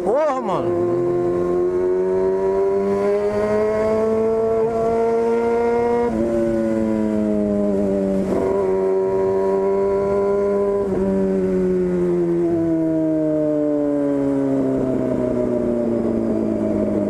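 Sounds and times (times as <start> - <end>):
motorcycle engine revving: 0.6 - 17.0.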